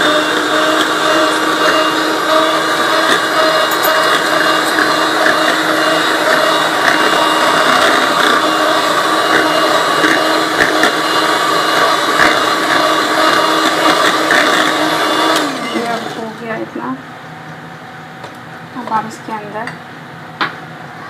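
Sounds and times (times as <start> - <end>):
electric mixer humming and whining: 0.0 - 16.9.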